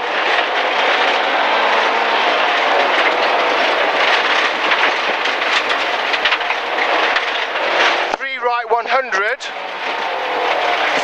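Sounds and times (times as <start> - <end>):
car engine at high revs: 0.0 - 11.0
gravel clattering against underbody: 0.0 - 11.0
tyre and gravel noise: 0.0 - 11.0.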